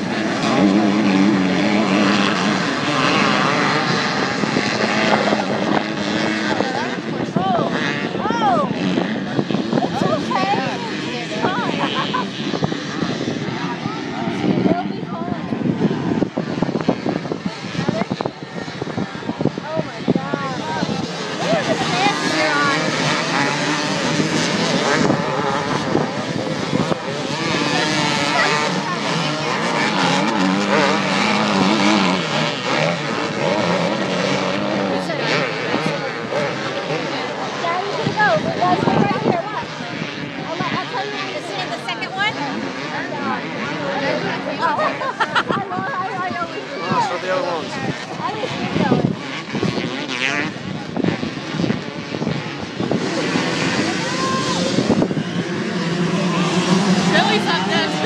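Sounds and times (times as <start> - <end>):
off-road racing engines revving: 0.0 - 58.0.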